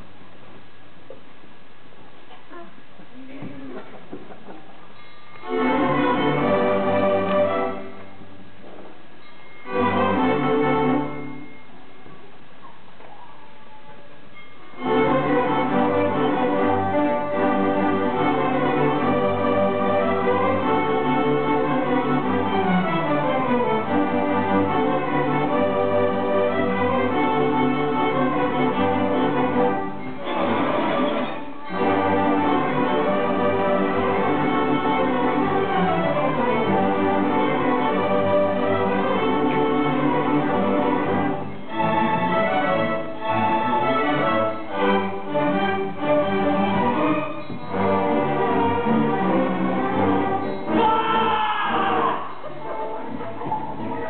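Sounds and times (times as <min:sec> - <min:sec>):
string orchestra playing: 0:05.2 - 0:08.5, 0:09.4 - 0:11.8, 0:14.6 - 0:54.0.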